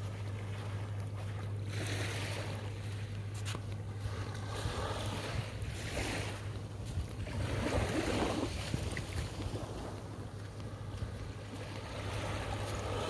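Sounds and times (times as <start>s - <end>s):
small waves washing onto sand: 0.0s - 13.0s
steady low hum: 0.0s - 13.0s.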